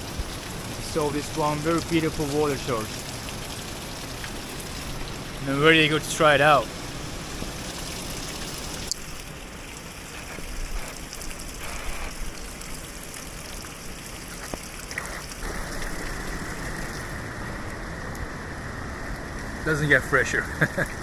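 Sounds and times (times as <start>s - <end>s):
spring water pouring and splashing: 0.0s - 21.0s.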